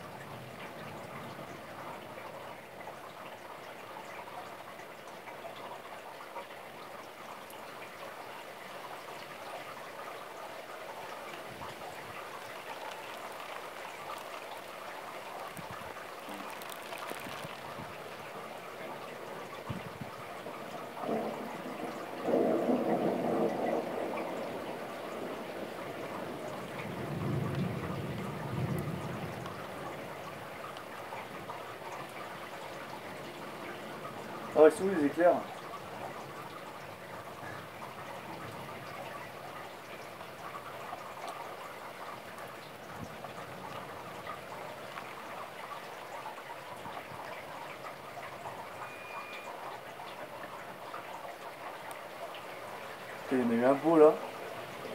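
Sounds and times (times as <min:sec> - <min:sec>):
heavy rain: 0:00.0 - 0:54.9
rush of water: 0:00.0 - 0:54.9.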